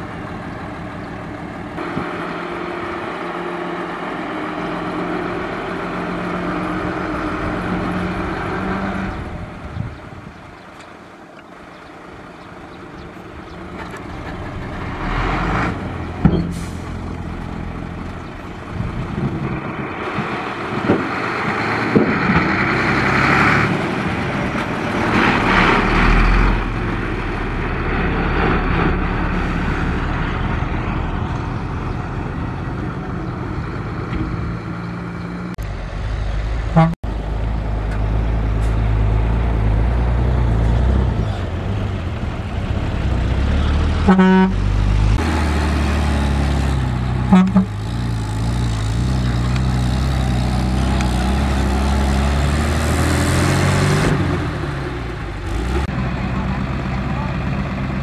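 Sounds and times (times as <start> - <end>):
deep engine rumble: 0.0 - 58.0
dump truck engines running: 0.0 - 58.0.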